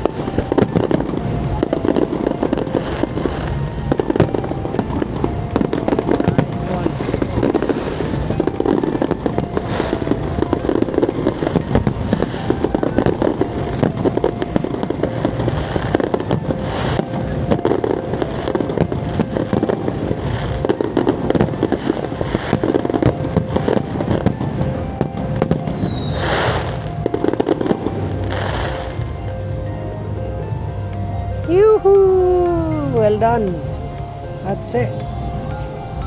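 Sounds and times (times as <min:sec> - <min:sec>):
fireworks bangs and crackles: 0:00.0 - 0:36.0
whistling firework: 0:00.0 - 0:36.0.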